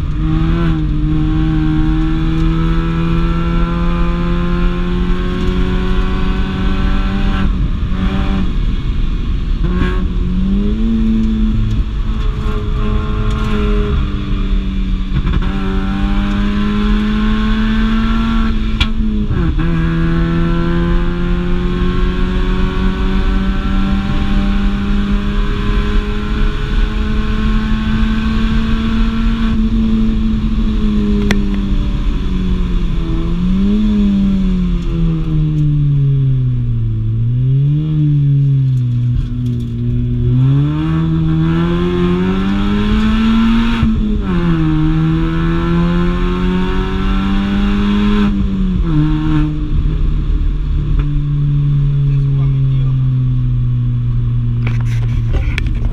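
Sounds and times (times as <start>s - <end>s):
car engine revving hard: 0.0s - 55.9s.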